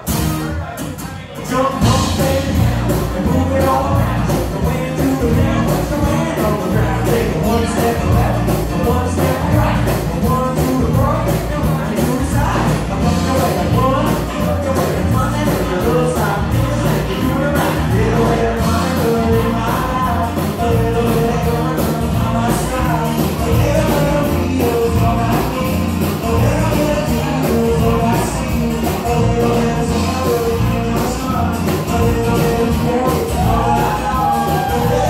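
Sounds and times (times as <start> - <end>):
live band playing dance music: 0.0 - 35.0.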